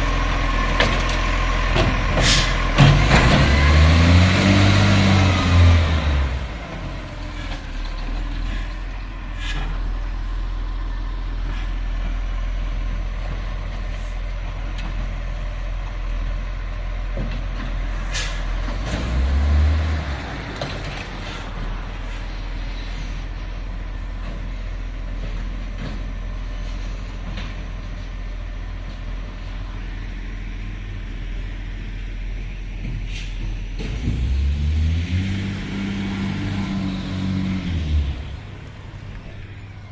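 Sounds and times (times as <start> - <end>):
garbage truck diesel engine: 0.0 - 39.9.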